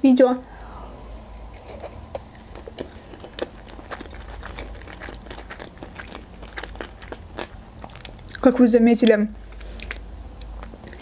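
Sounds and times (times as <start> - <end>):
wet chewing smacks: 1.0 - 11.0.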